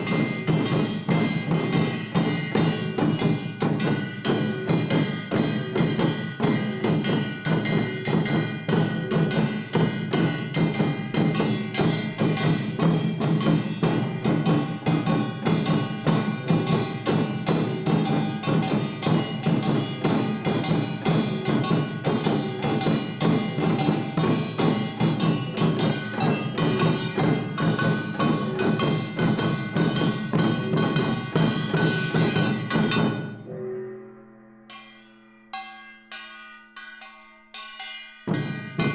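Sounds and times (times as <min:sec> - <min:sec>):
percussion ensemble playing: 0:00.0 - 0:34.0, 0:34.7 - 0:38.9.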